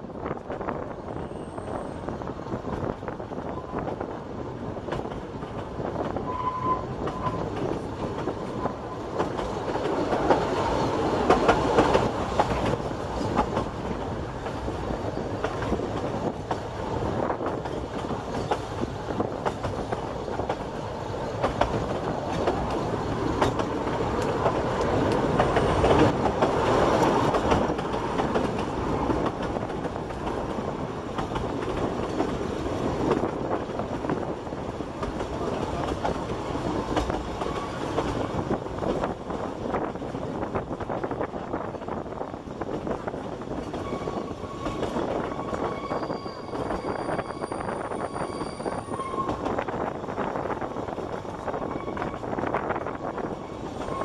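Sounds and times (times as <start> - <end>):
train wheels clacking over rails: 0.2 - 54.0.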